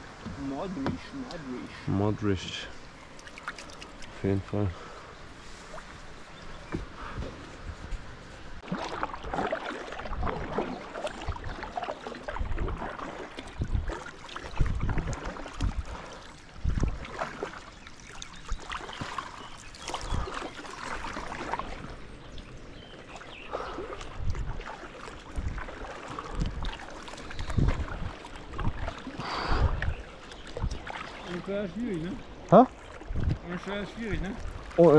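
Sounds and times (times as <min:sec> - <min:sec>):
paddle splashing in water: 0:00.0 - 0:07.8, 0:08.4 - 0:34.9.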